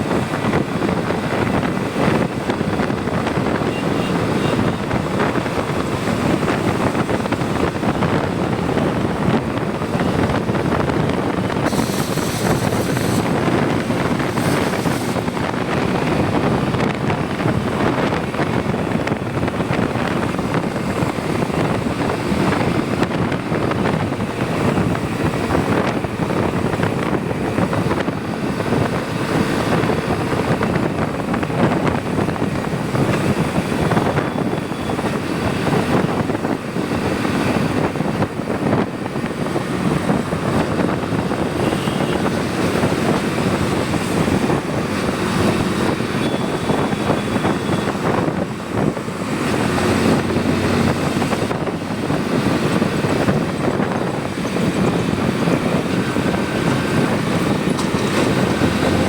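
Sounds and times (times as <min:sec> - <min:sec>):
motorcycle engine and road noise: 0:00.0 - 0:59.0
wind on microphone: 0:00.0 - 0:59.0.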